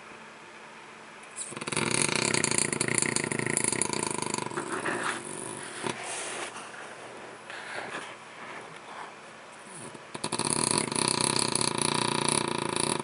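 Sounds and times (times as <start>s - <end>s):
dog snoring: 1.4s - 9.1s, 9.7s - 13.0s
dog breathing: 1.4s - 13.0s.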